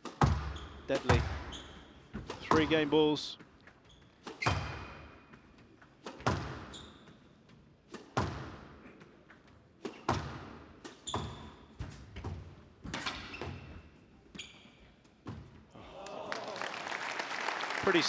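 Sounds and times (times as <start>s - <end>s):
squash ball hitting rackets and walls: 0.0s - 15.7s
court shoes squeaking: 0.0s - 15.8s.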